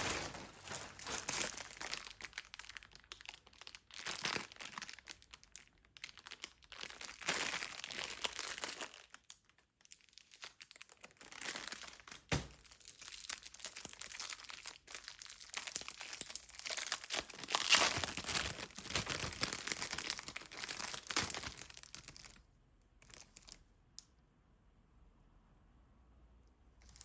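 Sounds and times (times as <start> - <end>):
packaging crinkling and tearing: 0.0 - 22.4, 23.0 - 23.6.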